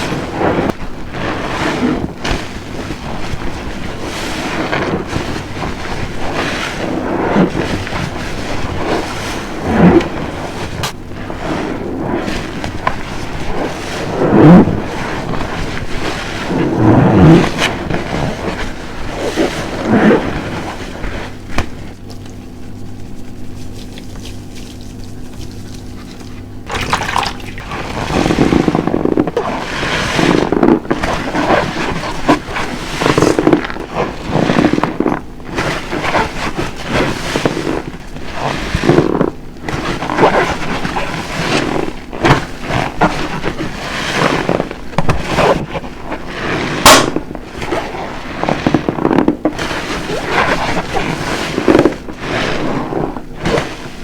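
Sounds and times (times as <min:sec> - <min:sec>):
soapy sponge squelching: 0:00.0 - 0:54.0.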